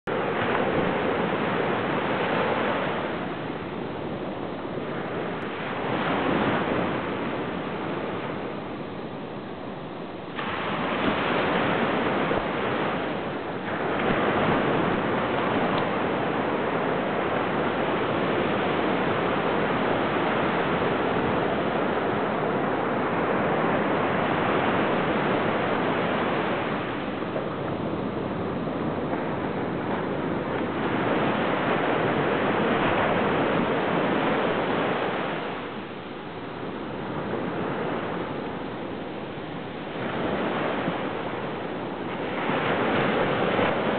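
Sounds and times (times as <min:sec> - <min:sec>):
ocean surf on sandy beach: 0:00.0 - 0:43.9.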